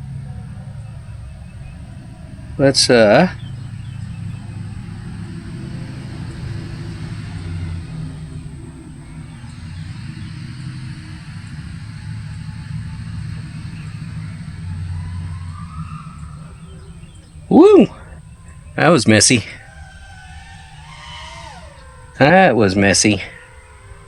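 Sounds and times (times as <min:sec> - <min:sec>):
drone motors buzzing: 0:00.0 - 0:24.0
rushing air rumble: 0:00.0 - 0:24.0.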